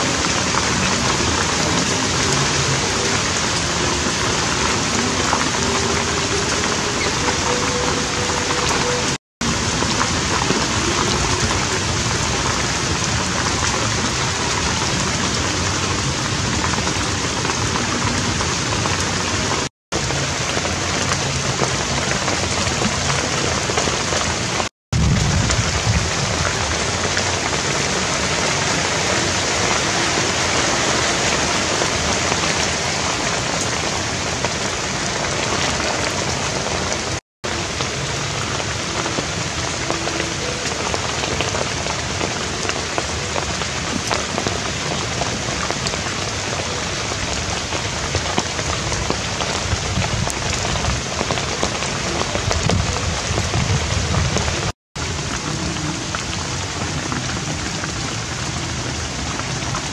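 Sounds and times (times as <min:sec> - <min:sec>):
heavy rain on thatch and planks: 0:00.0 - 0:59.9.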